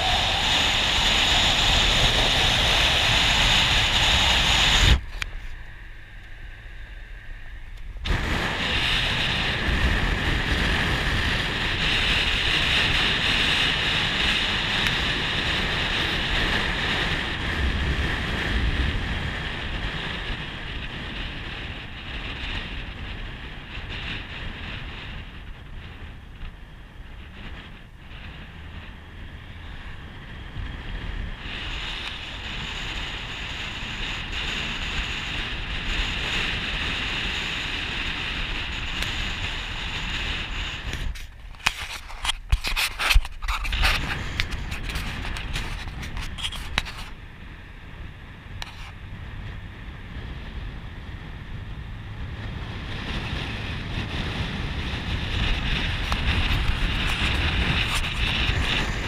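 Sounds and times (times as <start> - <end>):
road noise: 0.0 - 59.0
wind rushing past car window: 0.0 - 59.0.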